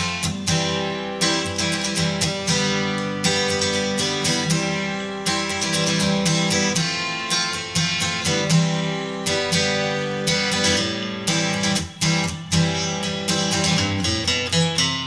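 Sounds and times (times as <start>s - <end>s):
acoustic guitar background music: 0.0s - 15.0s.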